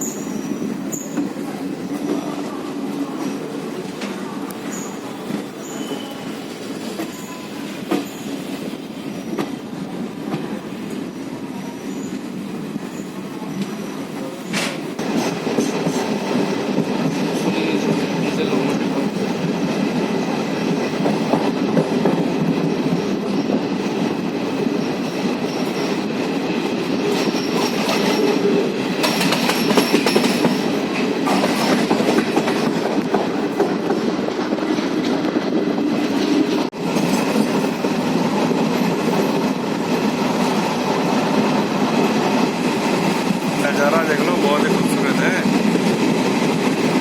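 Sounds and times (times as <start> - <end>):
train rumble on board: 0.0 - 47.0
wheels clickety-clack on track: 3.2 - 11.1, 12.1 - 47.0.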